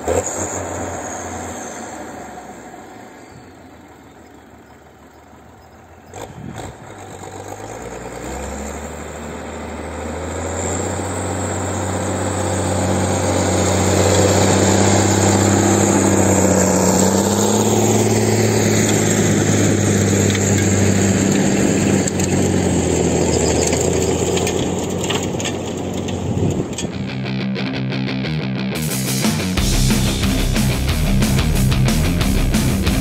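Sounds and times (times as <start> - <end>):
tractor diesel engine: 0.0 - 33.0.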